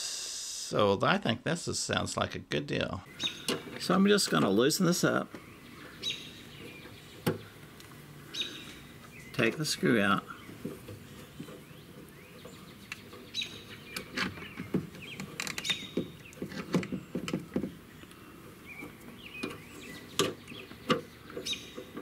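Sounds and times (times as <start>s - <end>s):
birds chirping: 1.9s - 22.0s.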